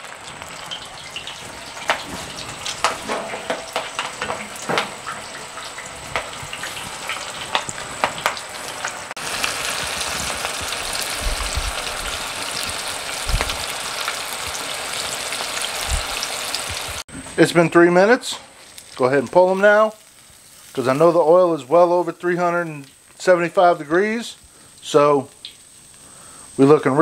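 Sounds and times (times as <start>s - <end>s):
deep frying sizzle and pops: 0.0s - 17.1s, 18.2s - 27.0s.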